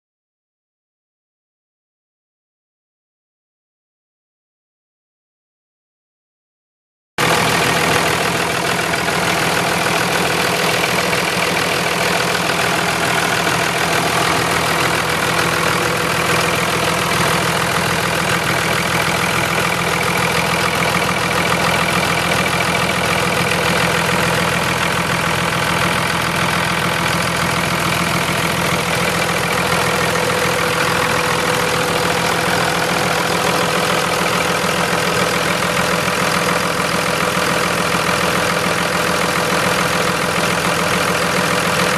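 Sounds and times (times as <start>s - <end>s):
diesel engine idling: 7.2s - 41.9s.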